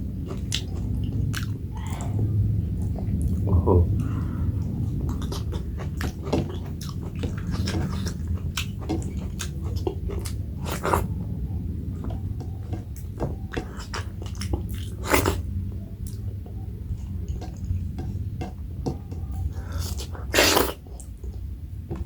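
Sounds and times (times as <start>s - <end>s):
steady low hum: 0.0s - 22.0s
chewing with wet mouth clicks: 0.2s - 11.1s, 12.0s - 21.5s.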